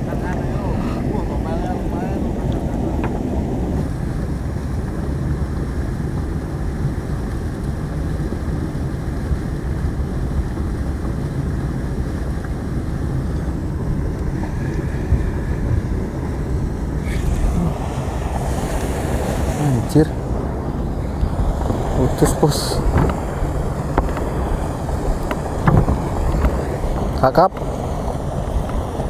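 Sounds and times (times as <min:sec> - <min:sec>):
wind blowing across microphone: 0:00.0 - 0:29.0.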